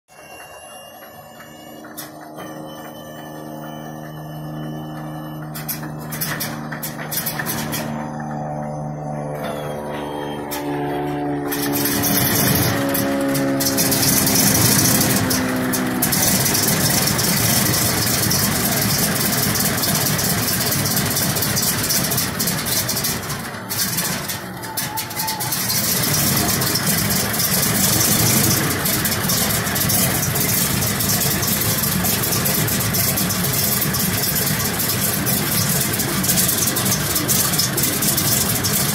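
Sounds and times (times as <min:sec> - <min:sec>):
radial aircraft engine running: 0:00.0 - 0:38.9.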